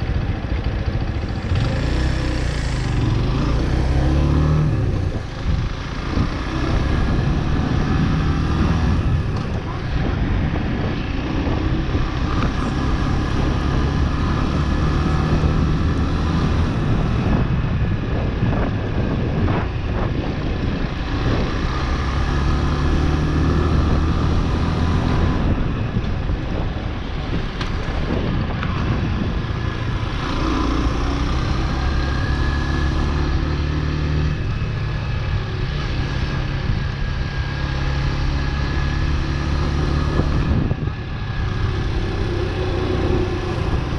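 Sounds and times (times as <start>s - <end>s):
motorcycle engine running: 0.0s - 43.9s
road noise: 0.0s - 43.9s
wind noise: 0.0s - 43.9s.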